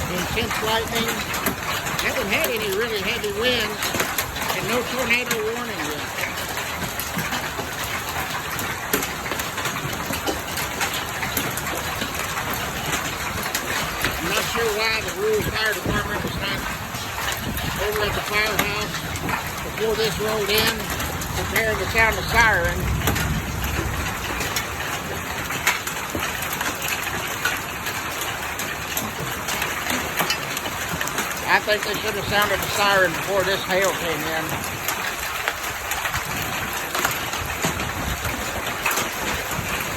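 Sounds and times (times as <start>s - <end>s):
hail pelting down: 0.0s - 39.9s
hailstones striking: 0.0s - 39.9s.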